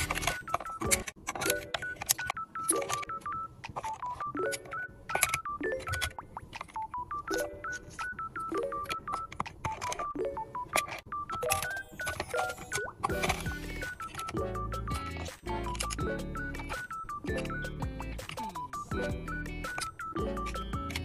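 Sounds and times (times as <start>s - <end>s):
electronic beeping music: 0.0s - 21.0s.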